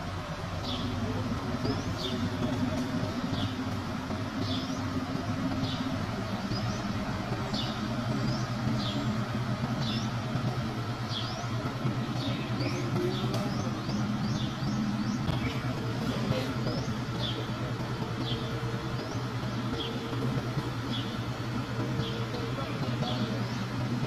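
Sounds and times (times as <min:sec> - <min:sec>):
diesel engine idling: 0:00.0 - 0:24.0
bird chirping: 0:04.4 - 0:23.8.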